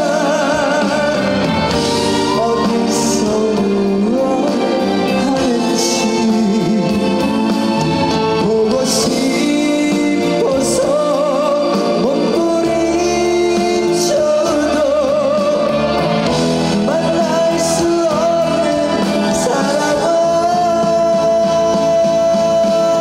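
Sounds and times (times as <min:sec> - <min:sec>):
live band: 0:00.0 - 0:23.0
person singing with vibrato: 0:00.0 - 0:23.0.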